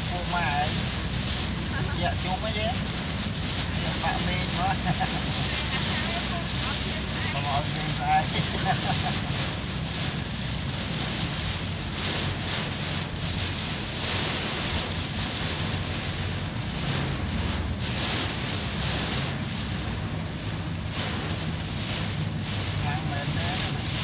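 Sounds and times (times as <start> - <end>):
heavy rain on car roof: 0.0 - 24.0
moving car rumble: 0.0 - 24.0.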